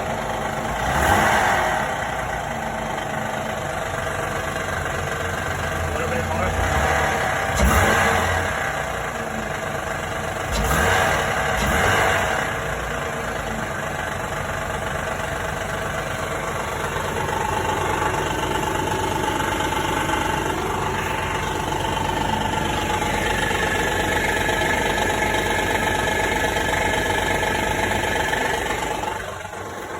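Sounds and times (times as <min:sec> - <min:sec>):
engine knocking: 0:00.0 - 0:29.9.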